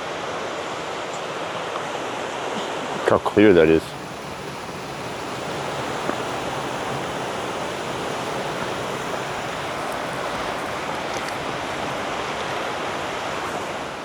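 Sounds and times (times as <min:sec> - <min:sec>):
river water flowing: 0:00.0 - 0:14.0.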